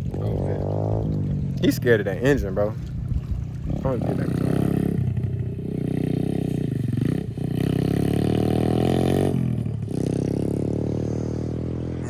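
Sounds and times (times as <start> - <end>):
small motorbike engine revving: 0.0 - 1.8, 3.6 - 12.0.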